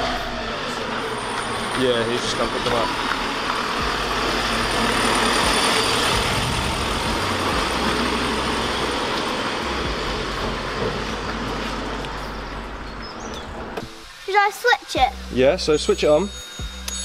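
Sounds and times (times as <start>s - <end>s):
car engine running: 0.0s - 14.1s.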